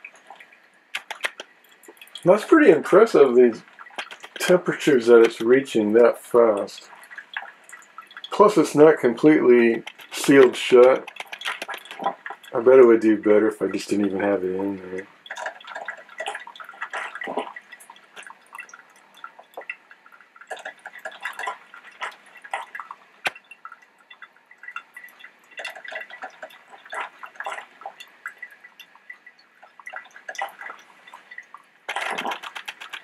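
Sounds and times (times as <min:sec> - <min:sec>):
coffee maker sputtering and dripping: 0:00.0 - 0:33.0.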